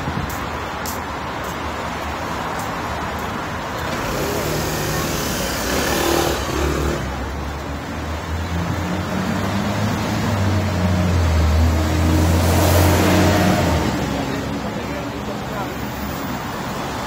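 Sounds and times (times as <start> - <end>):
vehicle engines running: 0.0 - 17.0.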